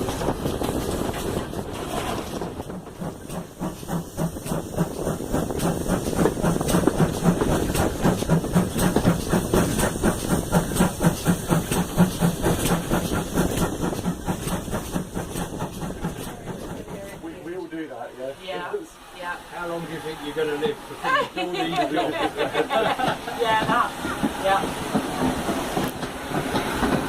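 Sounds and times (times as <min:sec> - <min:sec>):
steam locomotive exhaust beats: 0:00.0 - 0:18.2, 0:22.2 - 0:27.0
steady steam hiss: 0:00.0 - 0:27.0.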